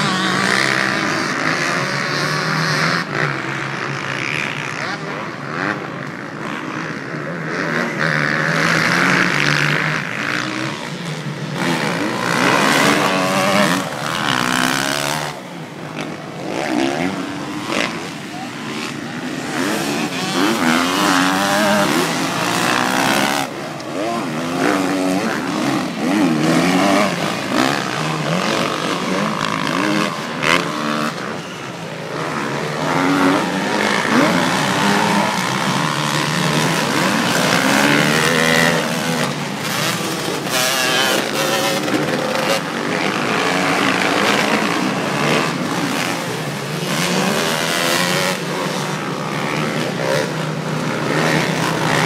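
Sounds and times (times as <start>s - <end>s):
motocross bike engines revving: 0.0s - 52.0s.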